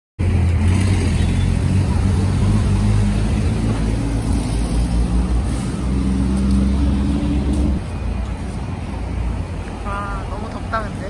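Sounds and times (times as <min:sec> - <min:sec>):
vehicle engines humming: 0:00.2 - 0:11.0.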